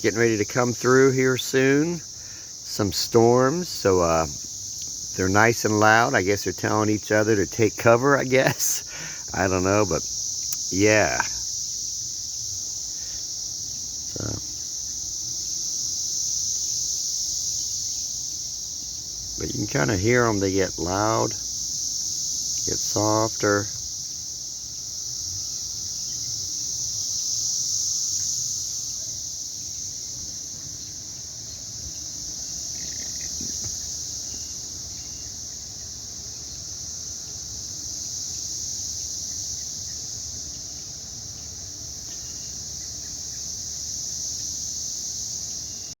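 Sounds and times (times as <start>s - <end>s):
cicadas droning: 0.0s - 46.0s.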